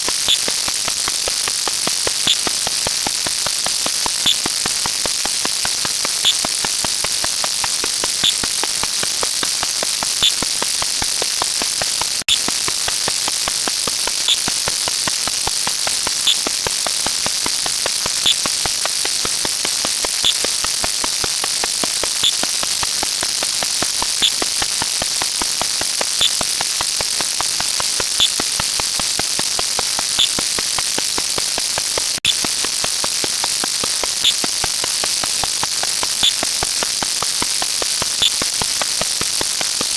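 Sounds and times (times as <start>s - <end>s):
rapid counter clicks: 0.0s - 39.9s.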